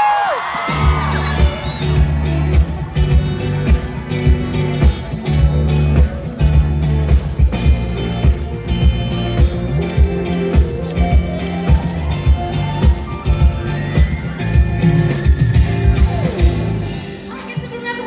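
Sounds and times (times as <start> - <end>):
live pop band music: 0.0 - 18.0.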